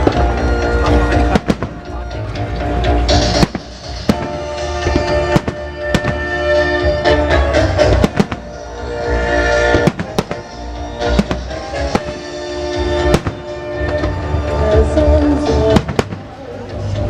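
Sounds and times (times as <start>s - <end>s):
fireworks bursting: 0.0s - 16.9s
musical theatre music: 0.0s - 17.0s.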